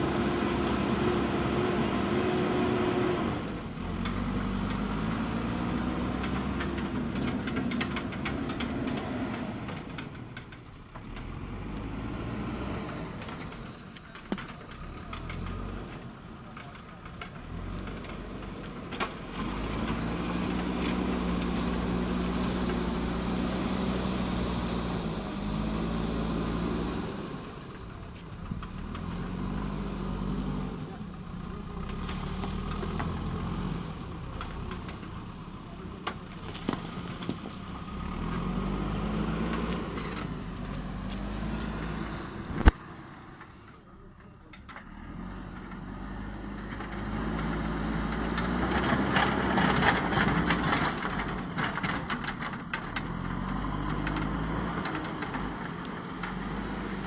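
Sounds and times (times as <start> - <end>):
backhoe diesel engine under load: 0.0 - 57.0.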